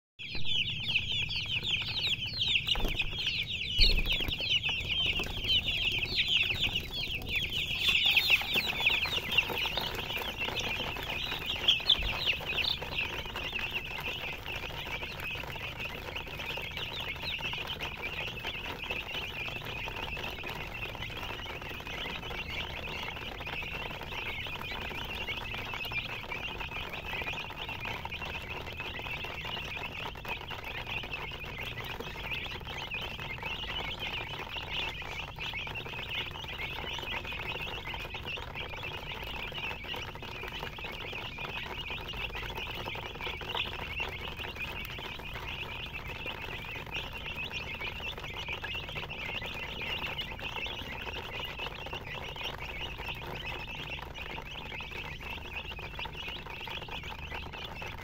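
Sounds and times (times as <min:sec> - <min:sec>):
chicks peeping: 0:00.2 - 0:58.0.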